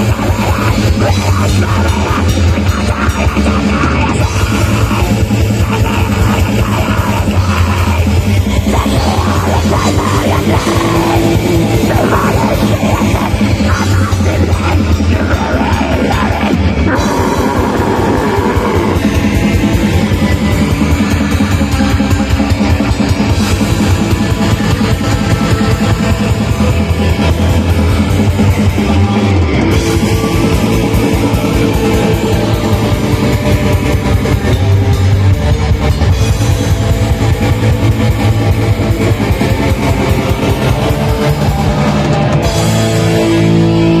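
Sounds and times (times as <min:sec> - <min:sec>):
distorted electric guitars: 0:00.0 - 0:44.0
fast dense drumming: 0:00.0 - 0:44.0
metal band playing live: 0:00.0 - 0:44.0.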